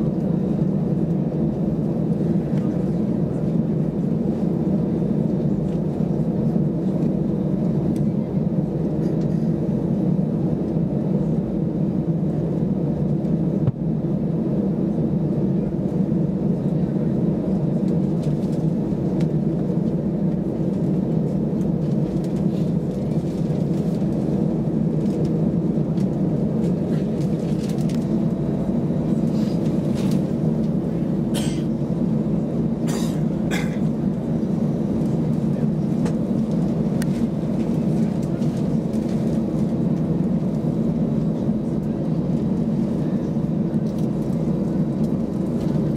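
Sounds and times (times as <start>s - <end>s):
aircraft engines idling: 0.0s - 45.9s.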